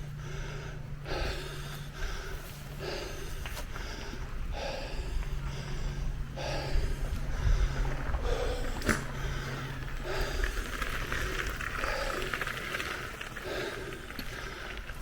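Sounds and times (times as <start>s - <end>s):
person breathing hard: 0.0s - 15.0s.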